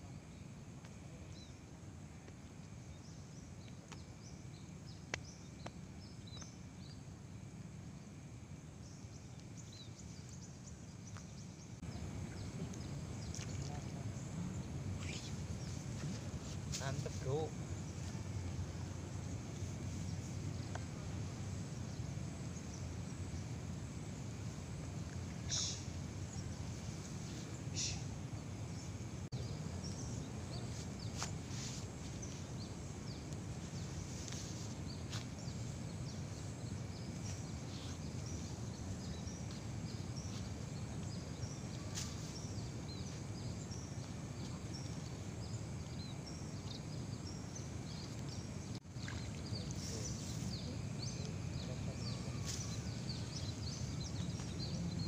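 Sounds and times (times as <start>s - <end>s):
low background rumble: 0.0s - 55.0s.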